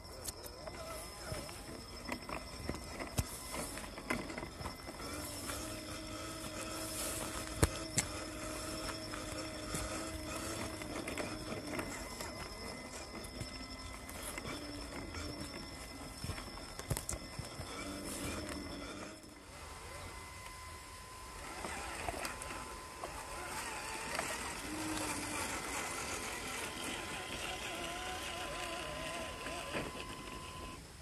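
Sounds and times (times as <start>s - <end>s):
small electric motor whining: 0.0s - 31.0s.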